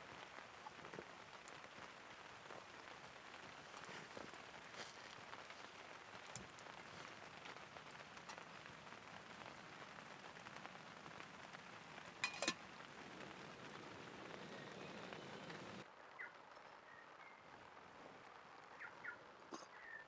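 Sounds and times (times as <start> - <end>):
faint steady rain: 0.0 - 20.0.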